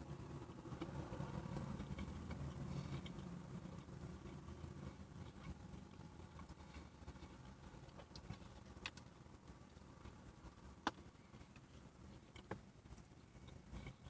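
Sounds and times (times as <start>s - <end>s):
faint chewing: 0.4s - 14.0s.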